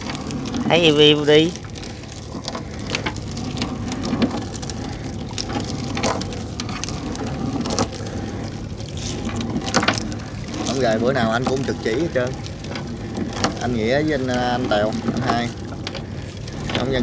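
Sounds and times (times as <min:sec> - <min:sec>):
rain falling: 0:00.0 - 0:17.0
raindrops tapping close by: 0:00.0 - 0:17.0
steady low hum: 0:00.0 - 0:17.0.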